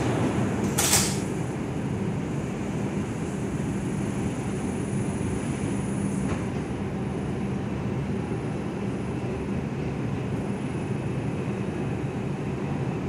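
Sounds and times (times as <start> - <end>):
subway car rumbling: 0.0 - 13.0.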